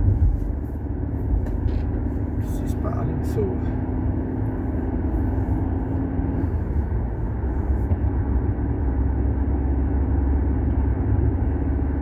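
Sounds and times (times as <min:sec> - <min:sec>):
car engine and road drone: 0:00.0 - 0:12.0.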